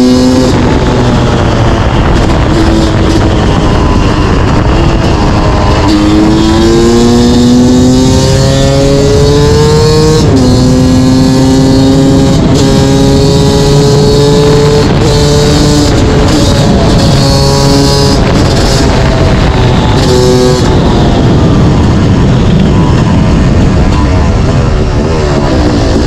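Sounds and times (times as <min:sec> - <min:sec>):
two-stroke motorcycle accelerating: 0:00.0 - 0:26.0.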